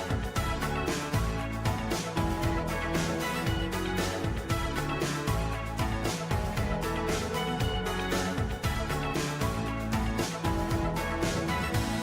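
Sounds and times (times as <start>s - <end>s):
regular drum pulse: 0.0s - 12.0s.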